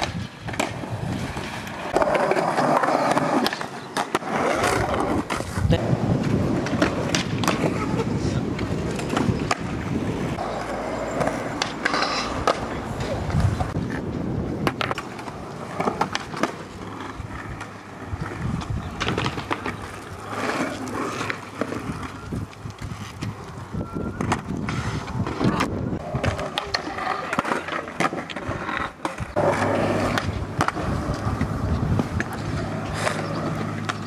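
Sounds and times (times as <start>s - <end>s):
skateboard clacks: 0.0s - 34.0s
skateboard wheels rolling on concrete: 0.0s - 34.0s.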